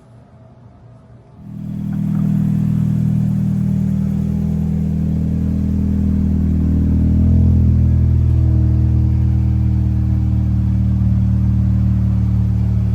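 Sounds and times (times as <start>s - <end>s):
car engine droning: 1.4s - 12.9s.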